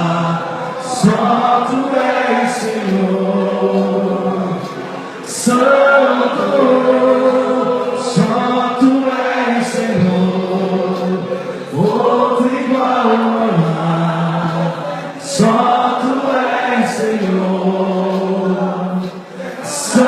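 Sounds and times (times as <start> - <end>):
congregation singing worship song: 0.0 - 20.0.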